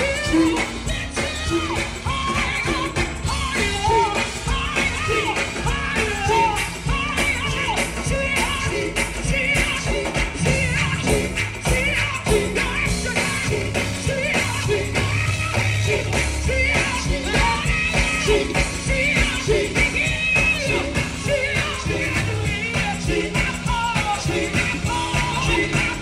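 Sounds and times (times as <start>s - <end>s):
amplified backing music: 0.0s - 26.0s
bass line: 0.0s - 26.0s
steady drum beat: 0.0s - 26.0s
vocal group singing: 0.0s - 26.0s.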